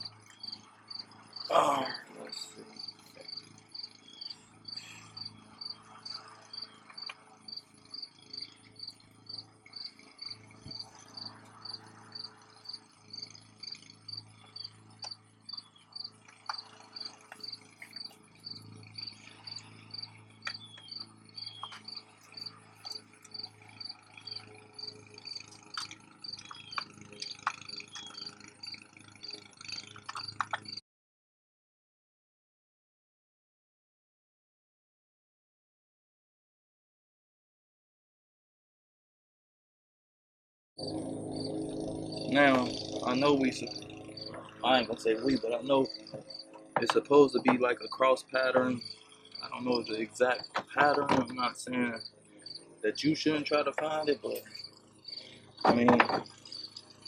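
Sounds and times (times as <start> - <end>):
cricket chirping: 0.0 - 30.8, 40.8 - 57.0.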